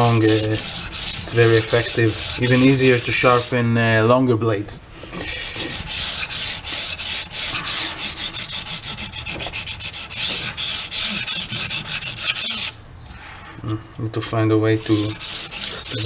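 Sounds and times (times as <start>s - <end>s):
knife scraping on sandpaper: 0.0s - 3.6s, 5.2s - 13.5s, 14.8s - 16.0s.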